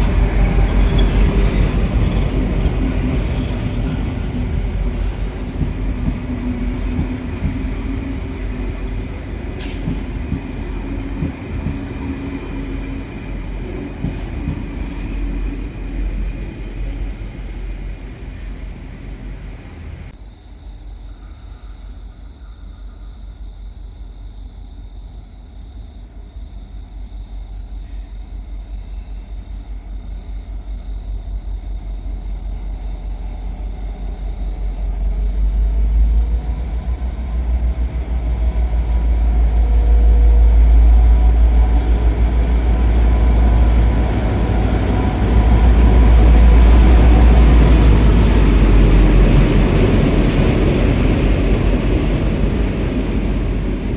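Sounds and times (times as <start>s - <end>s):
wheel and rail noise: 0.0s - 20.2s, 28.8s - 53.9s
train engine drone: 0.0s - 53.9s.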